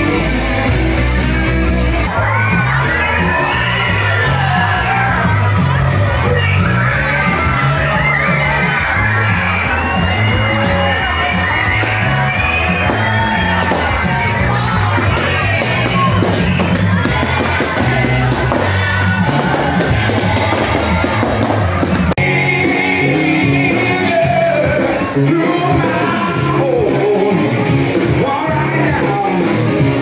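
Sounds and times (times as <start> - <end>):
loud party music with singing: 0.0 - 30.0
crowd shouting: 1.5 - 27.4.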